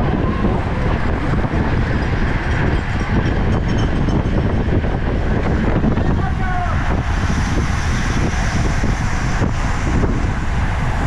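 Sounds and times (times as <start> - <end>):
road noise of bicycles: 0.0 - 11.0
wind rushing over microphone: 0.0 - 11.0.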